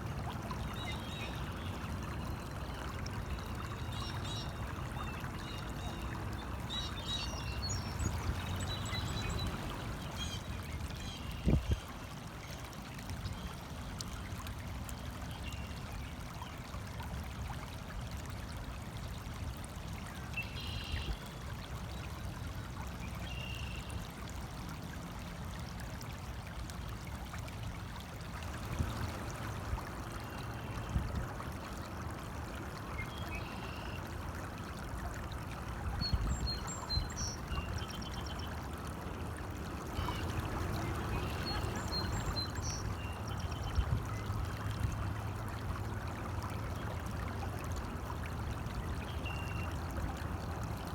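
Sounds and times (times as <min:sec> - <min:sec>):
small stream trickling: 0:00.0 - 0:50.9.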